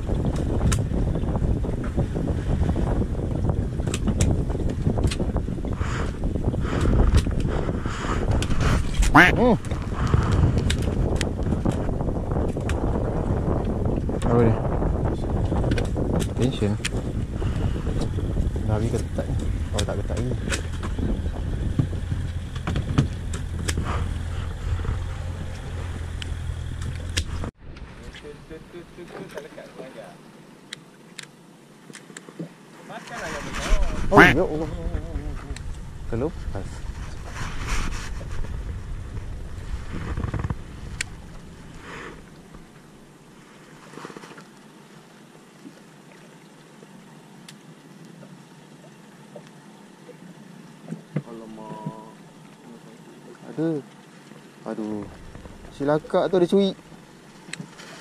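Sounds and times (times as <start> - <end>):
boat engine humming: 0.0 - 58.0.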